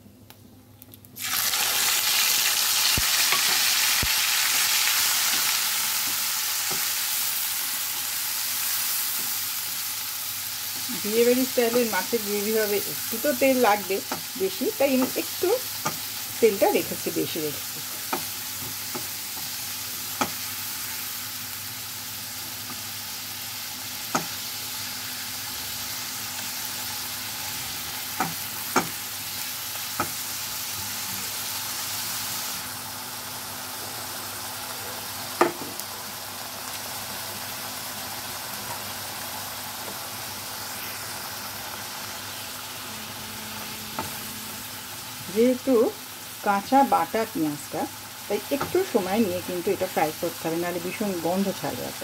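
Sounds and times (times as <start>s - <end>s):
onion paste sizzling in oil: 1.1s - 52.0s.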